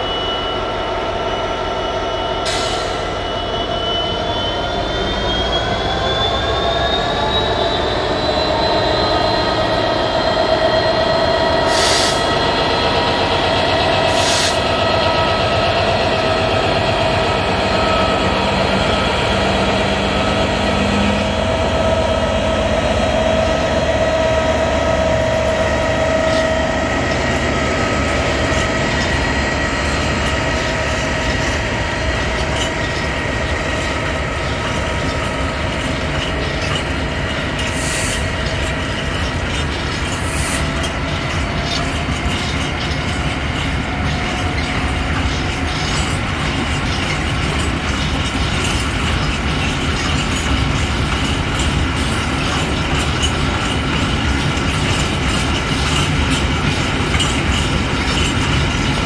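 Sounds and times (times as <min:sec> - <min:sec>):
faint high wheel squeal: 0:00.0 - 0:53.9
train wheels clicking over rail joints: 0:07.2 - 0:59.0.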